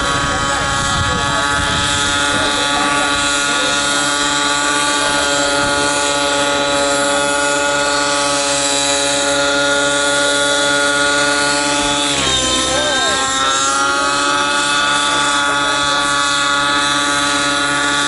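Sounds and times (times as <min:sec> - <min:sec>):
helicopter rotor hum: 0:00.0 - 0:18.0.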